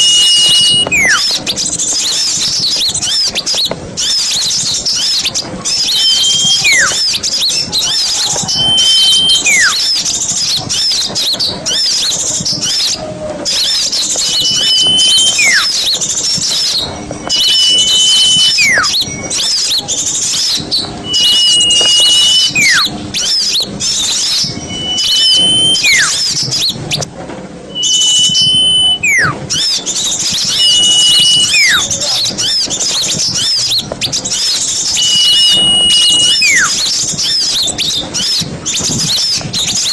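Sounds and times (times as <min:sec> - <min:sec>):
small birds chattering: 0:00.0 - 0:27.1, 0:27.7 - 0:39.9
whistle call: 0:00.0 - 0:27.1, 0:27.7 - 0:39.9.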